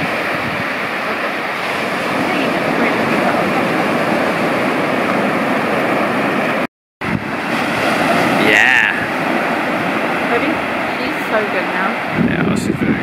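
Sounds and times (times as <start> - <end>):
sea surf breaking: 0.0 - 12.4.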